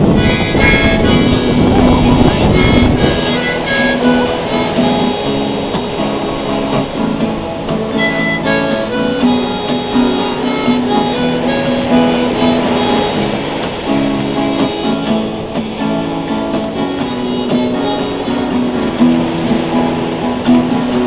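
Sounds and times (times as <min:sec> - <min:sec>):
harmonica melody: 0:00.0 - 0:21.0
strummed acoustic guitar: 0:00.0 - 0:21.0.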